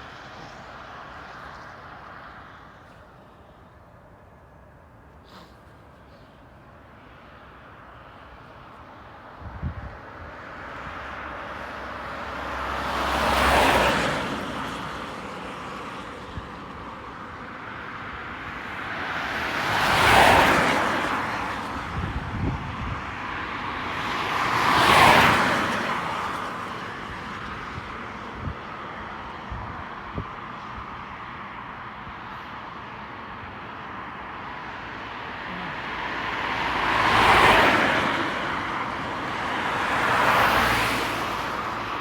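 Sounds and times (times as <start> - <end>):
cars passing by: 0.0 - 42.0.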